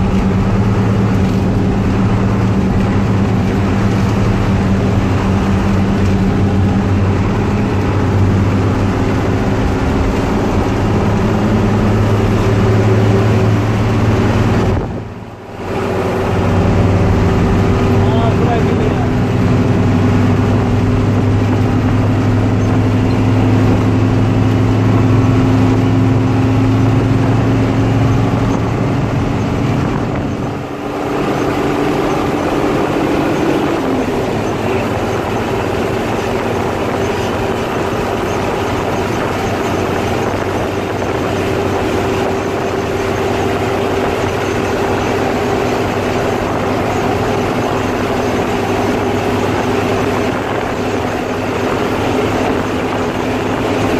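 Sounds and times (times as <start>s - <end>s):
bus diesel engine pulling hard: 0.0s - 53.9s.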